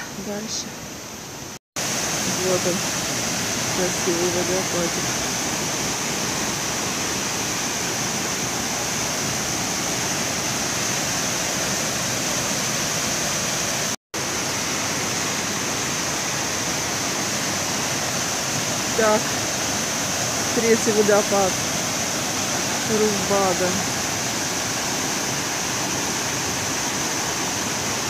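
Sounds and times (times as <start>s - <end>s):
waterfall rushing: 1.8s - 28.0s.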